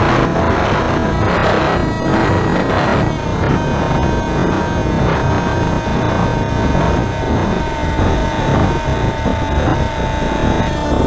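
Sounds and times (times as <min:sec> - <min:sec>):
electronic background music: 0:00.0 - 0:11.0.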